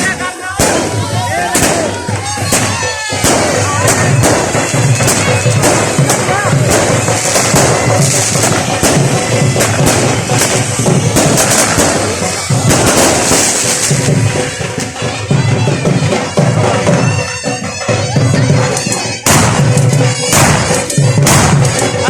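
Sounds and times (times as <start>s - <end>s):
firecrackers banging: 0.0s - 22.0s
loud music: 0.0s - 22.0s.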